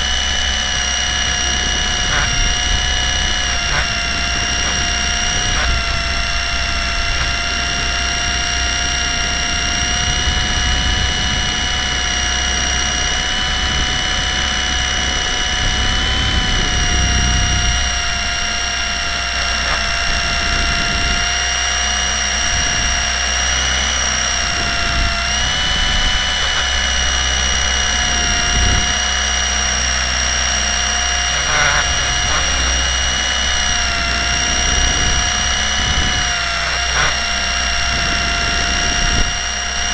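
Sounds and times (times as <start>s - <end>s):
helicopter motor and rotor whine: 0.0s - 39.9s.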